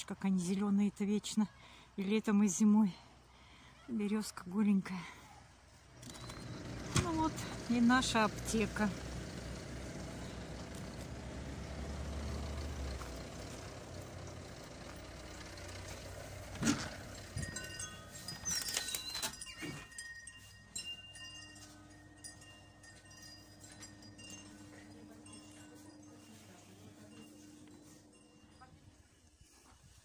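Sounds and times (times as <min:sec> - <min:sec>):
low outdoor rumble: 0:04.4 - 0:29.3
shop interior hum: 0:04.5 - 0:29.3.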